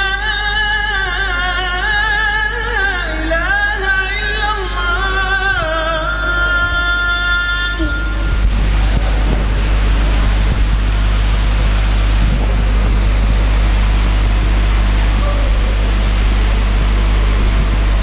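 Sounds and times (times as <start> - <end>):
air conditioners humming: 0.0 - 18.0.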